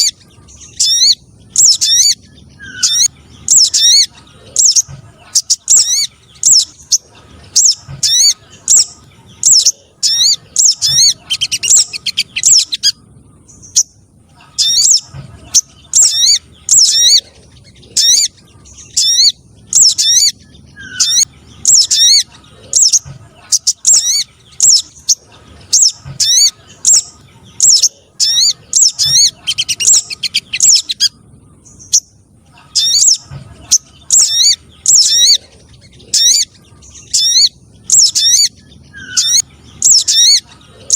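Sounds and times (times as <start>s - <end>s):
rapid high-pitched bird chirps: 0.0s - 40.9s.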